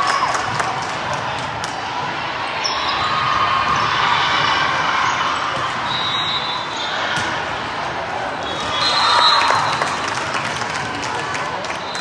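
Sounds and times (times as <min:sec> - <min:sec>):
crowd chatter: 0:00.0 - 0:12.0.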